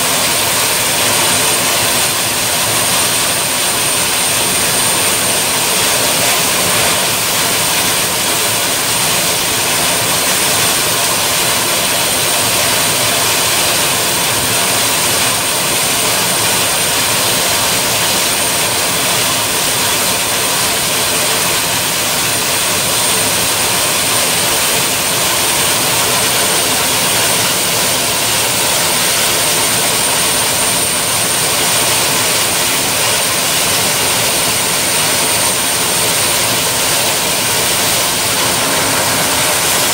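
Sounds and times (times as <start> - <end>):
high-pitched turbine whine: 0.0 - 39.9
jet-like turbine rush: 0.0 - 39.9.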